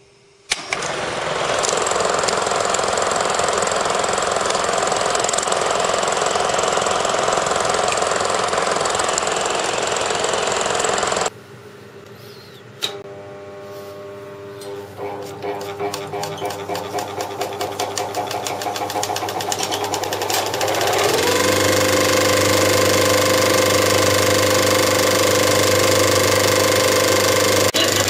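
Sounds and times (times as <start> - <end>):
film projector click: 0.5 - 11.3, 14.6 - 28.0
film projector rattling: 0.5 - 11.3, 15.0 - 28.0.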